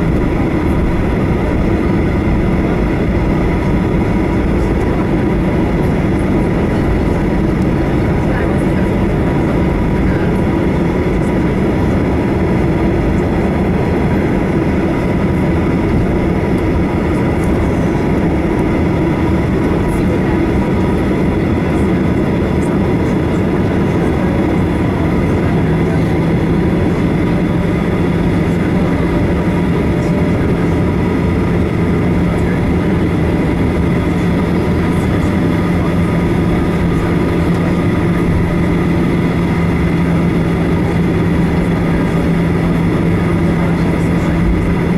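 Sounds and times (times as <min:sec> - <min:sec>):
jet engines at taxi thrust: 0:00.0 - 0:44.9
low hum: 0:00.0 - 0:44.9.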